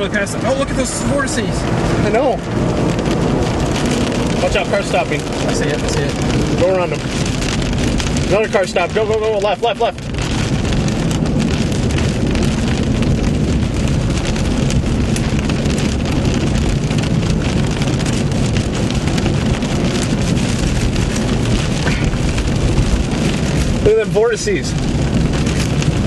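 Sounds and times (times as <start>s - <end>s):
car engine and tyres rumbling: 0.0s - 26.0s
heavy rain on a car: 0.0s - 26.0s.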